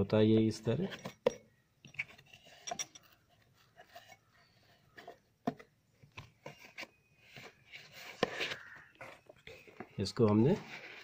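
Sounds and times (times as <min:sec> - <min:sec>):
cardboard rustling: 0:02.0 - 0:11.0.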